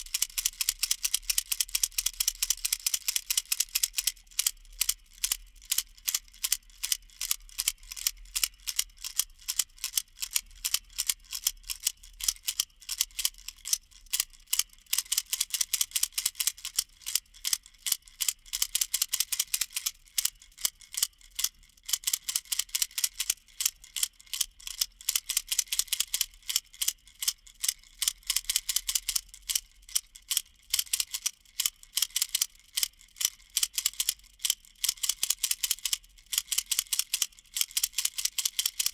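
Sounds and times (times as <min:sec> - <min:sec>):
baby rattle clicking: 0:00.0 - 0:38.9.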